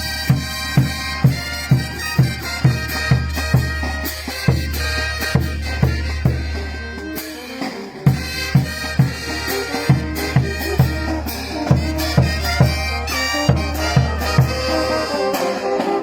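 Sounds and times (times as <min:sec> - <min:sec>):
bass drum beat: 0:00.0 - 0:06.8, 0:08.1 - 0:15.1
wind instruments playing melody: 0:00.0 - 0:16.0.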